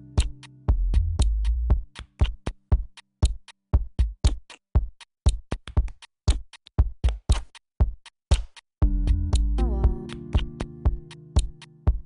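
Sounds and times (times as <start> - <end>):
fast drum-machine beat: 0.1 - 12.0.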